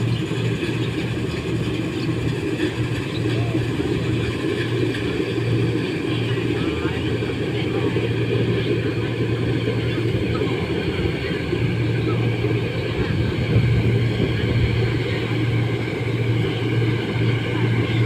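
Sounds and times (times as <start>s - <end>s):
harvester engine running: 0.0s - 18.0s
machinery noise: 0.0s - 18.0s.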